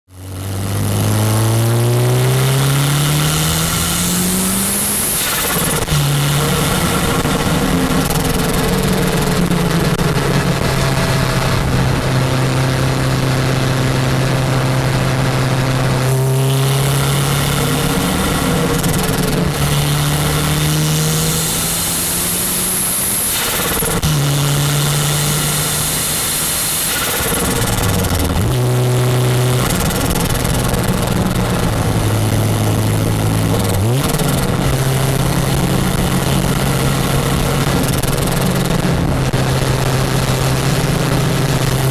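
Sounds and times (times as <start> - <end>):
turbocharged car engine accelerating: 0.1 - 41.9.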